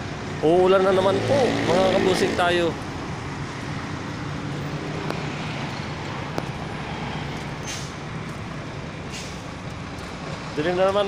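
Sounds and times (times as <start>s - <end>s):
outdoor noise: 0.0s - 11.0s.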